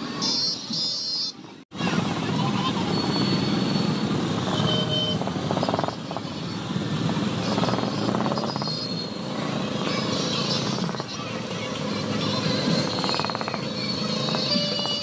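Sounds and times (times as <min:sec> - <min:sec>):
motorcycle engines running: 0:01.5 - 0:15.0.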